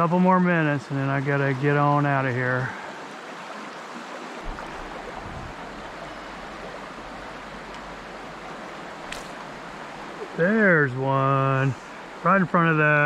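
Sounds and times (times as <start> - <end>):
river water rushing: 2.3 - 13.0.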